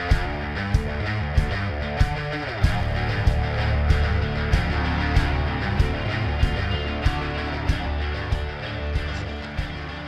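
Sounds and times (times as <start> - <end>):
rock music with guitar: 0.0 - 10.0
steady drum beat: 0.0 - 10.0.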